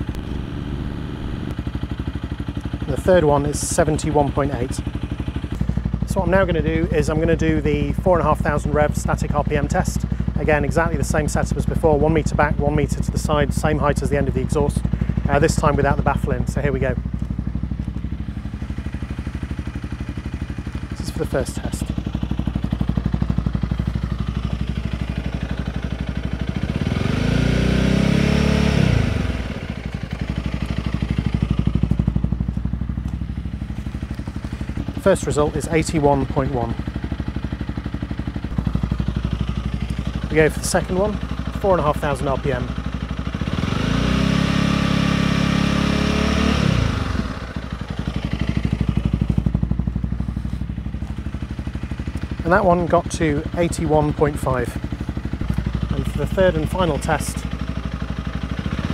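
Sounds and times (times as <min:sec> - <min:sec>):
motorcycle engine idling and revving: 0:00.0 - 0:58.9.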